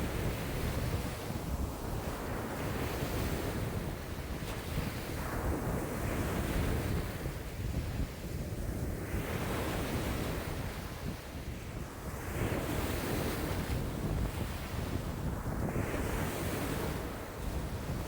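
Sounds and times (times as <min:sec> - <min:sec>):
waves washing on shore: 0:00.0 - 0:18.0
wind buffeting microphone: 0:00.0 - 0:18.0.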